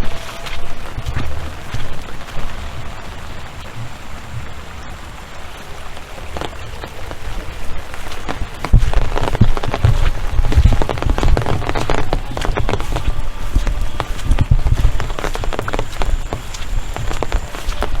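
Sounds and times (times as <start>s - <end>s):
heavy low rumbling gusts: 0.0s - 18.0s
rain pattering: 0.0s - 18.0s.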